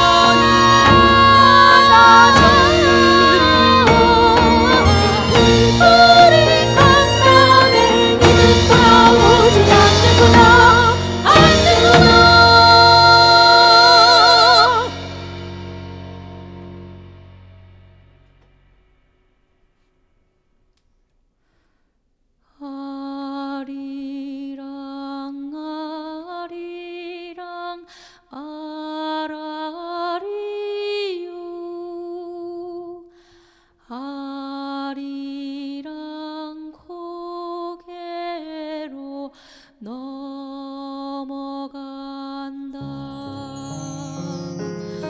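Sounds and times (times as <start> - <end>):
woman singing unaccompanied: 0.0 - 14.9, 22.6 - 33.1, 33.9 - 45.0.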